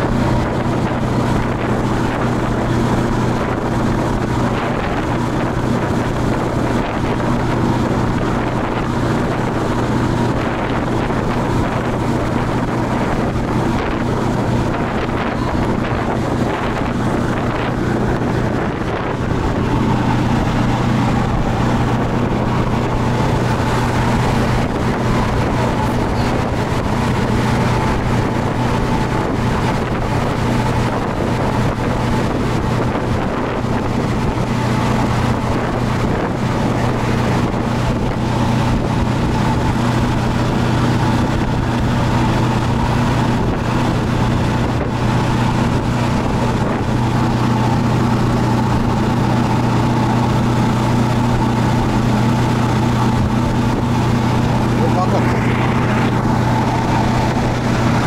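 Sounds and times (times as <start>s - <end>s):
motorboat engine humming: 0.0s - 58.0s
rush of boat wake: 0.0s - 58.0s
wind buffeting microphone: 0.0s - 58.0s.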